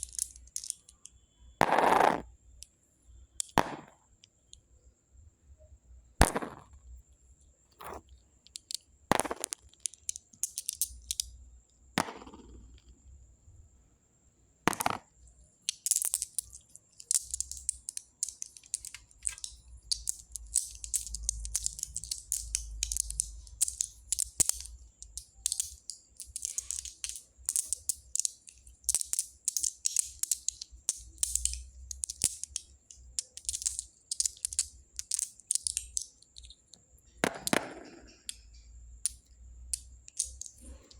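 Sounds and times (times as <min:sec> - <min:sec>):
pebbles knocking: 0:00.0 - 0:01.0, 0:01.6 - 0:02.3, 0:03.4 - 0:04.0, 0:06.2 - 0:06.7, 0:07.7 - 0:11.3, 0:12.0 - 0:12.8, 0:14.7 - 0:40.9
pebbles rattling and crunching: 0:00.0 - 0:02.3, 0:03.4 - 0:04.0, 0:06.2 - 0:06.7, 0:07.8 - 0:11.3, 0:12.0 - 0:12.8, 0:14.7 - 0:40.9.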